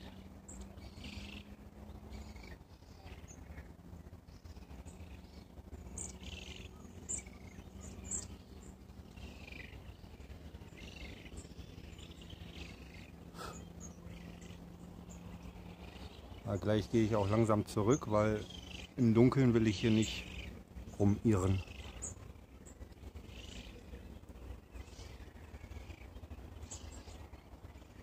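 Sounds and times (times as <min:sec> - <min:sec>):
birds chirping: 0:00.0 - 0:28.0
faint low hum: 0:00.0 - 0:28.0.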